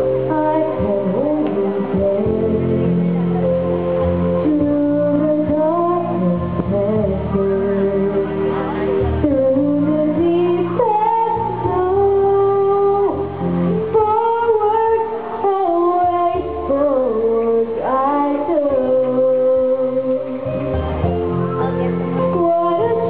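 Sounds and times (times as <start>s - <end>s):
girl singing ballad into microphone: 0.0s - 23.0s
instrumental accompaniment: 0.0s - 23.0s.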